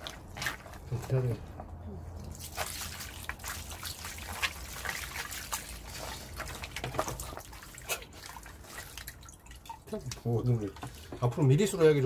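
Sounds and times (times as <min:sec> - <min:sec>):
water running into basin: 0:00.0 - 0:01.3, 0:02.2 - 0:12.0
small splashes and drips: 0:00.0 - 0:01.4, 0:02.1 - 0:12.0
wet squishing of flesh by hand: 0:00.0 - 0:12.0.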